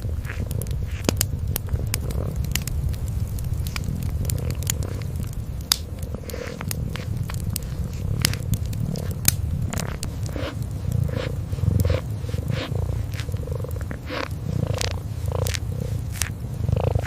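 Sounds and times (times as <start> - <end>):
kitten purring: 0.0 - 17.0
wood fire crackling: 0.0 - 17.0.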